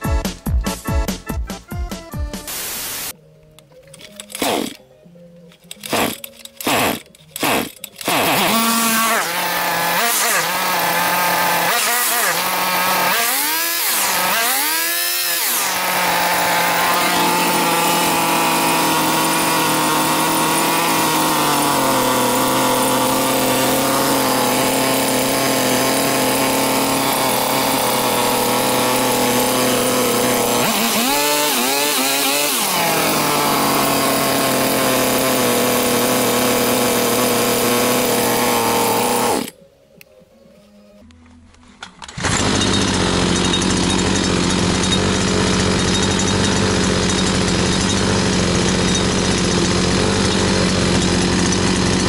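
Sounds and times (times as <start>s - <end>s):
brush cutter engine idling and revving: 4.2s - 4.8s, 5.6s - 39.6s, 42.0s - 52.0s.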